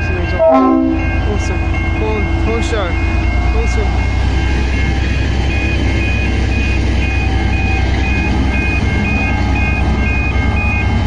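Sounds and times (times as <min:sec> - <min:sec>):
level crossing bells ringing: 0:00.0 - 0:11.0
locomotive engine rumble: 0:00.0 - 0:11.0.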